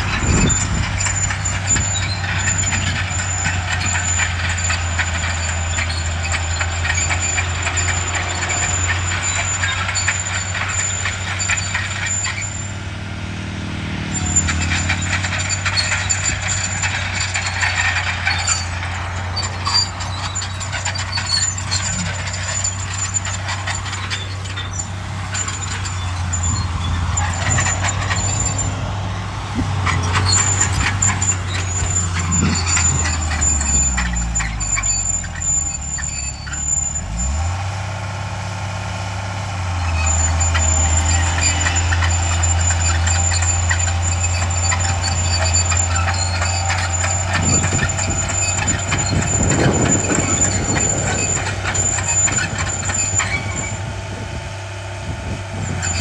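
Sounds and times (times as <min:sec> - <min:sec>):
machinery clatter: 0:00.0 - 0:37.5, 0:39.7 - 0:56.0
bulldozer engine humming: 0:00.0 - 0:56.0.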